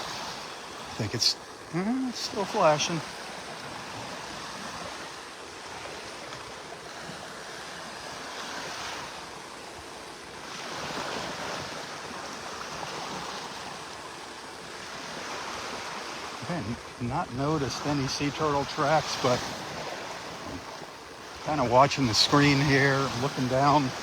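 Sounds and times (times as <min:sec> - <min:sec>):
small waves breaking on beach: 0:00.0 - 0:24.0.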